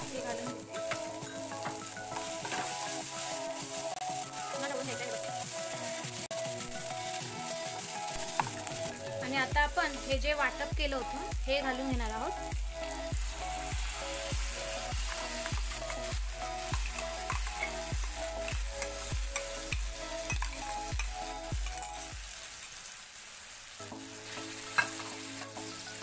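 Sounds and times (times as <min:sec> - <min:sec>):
background music with steady beat: 0:00.0 - 0:22.6, 0:23.8 - 0:26.0
paste sizzling in hot oil: 0:00.0 - 0:26.0.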